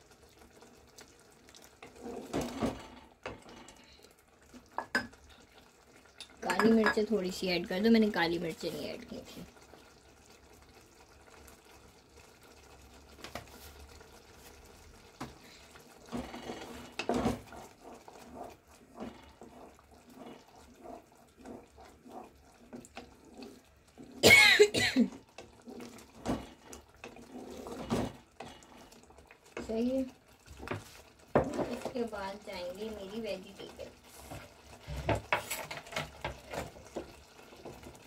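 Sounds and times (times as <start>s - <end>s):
wooden spatula scraping saucepan: 0.6s - 10.0s, 12.6s - 38.0s.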